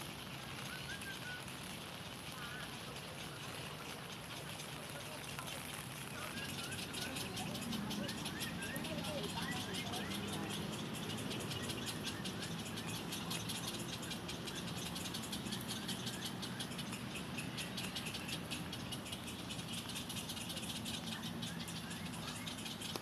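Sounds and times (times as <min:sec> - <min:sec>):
high continuous chirring: 0:00.0 - 0:23.0
birds chirping: 0:00.1 - 0:23.0
steady low hum: 0:01.6 - 0:23.0.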